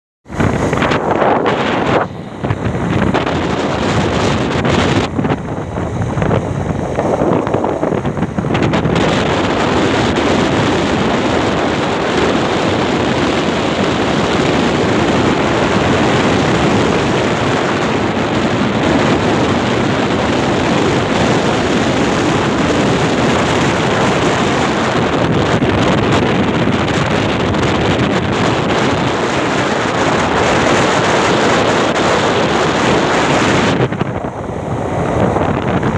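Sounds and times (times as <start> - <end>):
road noise: 0.2 - 35.9
wind rushing over microphone: 0.2 - 35.9.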